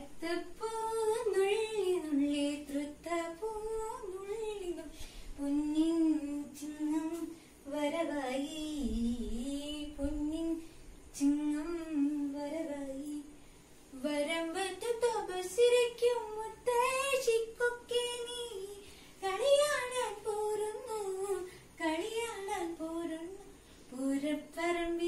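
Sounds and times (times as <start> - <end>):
woman singing unaccompanied: 0.0 - 25.0.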